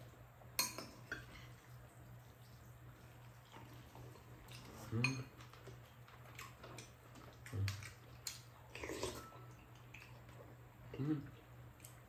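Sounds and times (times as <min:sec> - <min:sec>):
chewing and wet mouth sounds: 0:01.2 - 0:12.0.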